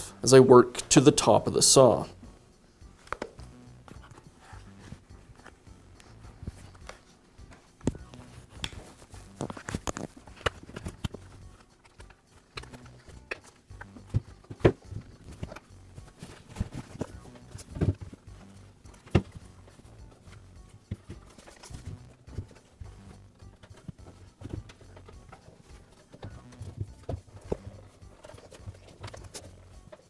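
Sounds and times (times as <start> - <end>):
rubber boot handling noise: 3.0 - 30.0.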